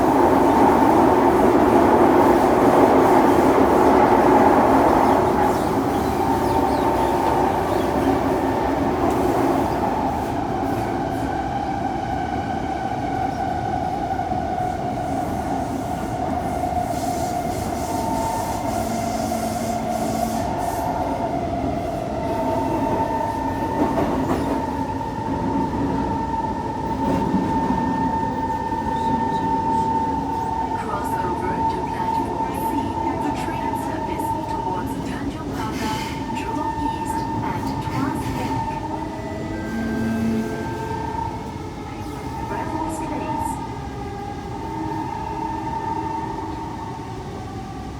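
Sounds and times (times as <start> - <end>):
high steady train whine: 0.0 - 47.9
metro train rumble: 0.0 - 47.9.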